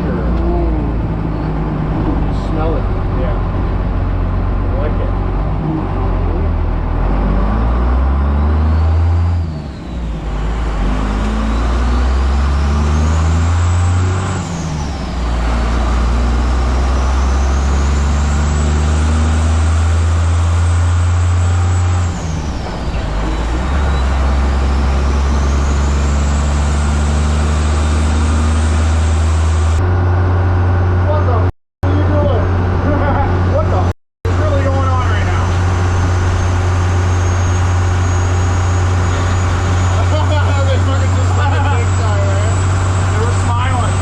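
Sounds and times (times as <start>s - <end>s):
truck engine accelerating: 0.0s - 44.0s.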